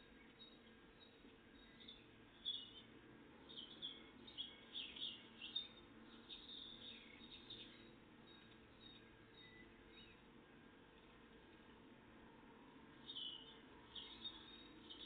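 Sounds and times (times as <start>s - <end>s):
low background hum: 0.0s - 15.0s
songbird singing faintly: 0.0s - 15.0s.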